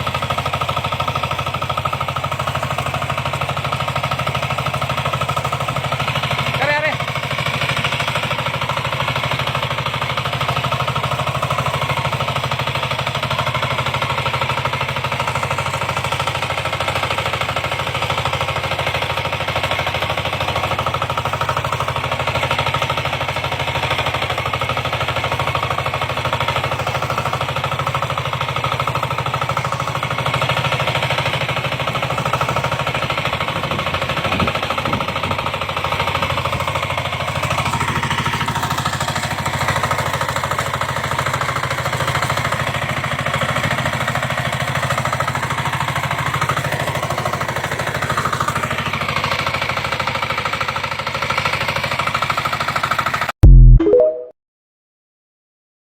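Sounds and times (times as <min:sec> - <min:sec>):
tractor engine knocking: 0:00.0 - 0:53.3.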